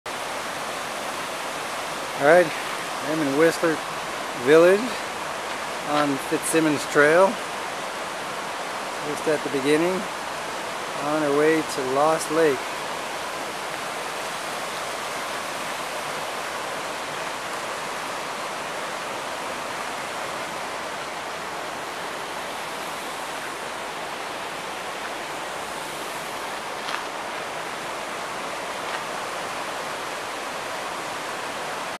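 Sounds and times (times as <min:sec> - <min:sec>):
creek rushing over boulders: 0:00.1 - 0:32.0.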